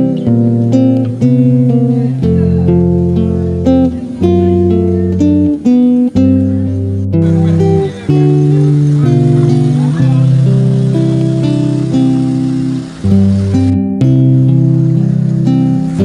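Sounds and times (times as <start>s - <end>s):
guitar music: 0.0s - 16.0s.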